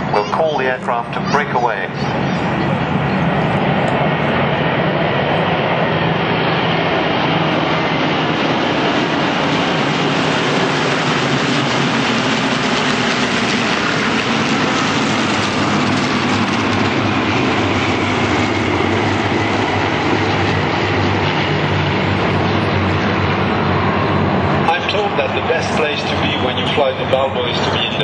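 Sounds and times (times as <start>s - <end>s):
propeller planes droning overhead: 0.0s - 28.0s.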